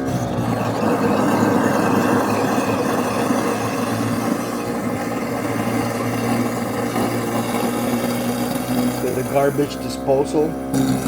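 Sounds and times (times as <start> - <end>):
garbage disposal motor hum: 0.0 - 11.0.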